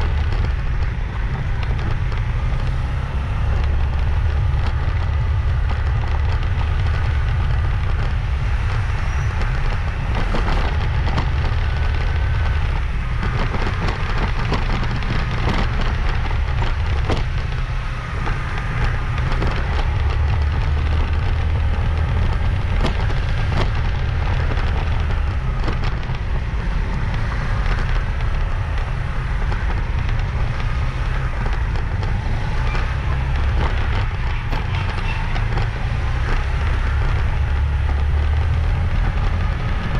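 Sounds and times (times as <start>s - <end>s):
road clicks and rattles: 0.0s - 39.9s
wind buffeting microphone: 0.0s - 39.9s.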